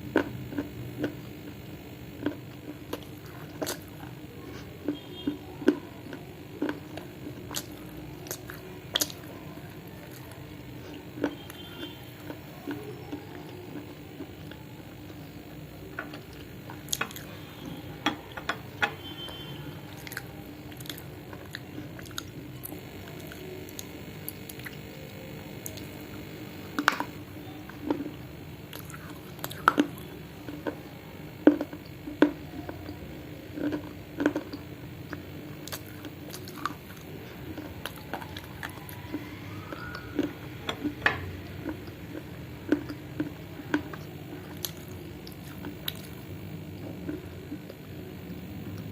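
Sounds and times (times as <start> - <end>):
crunching clay while chewing: 0.0 - 48.9.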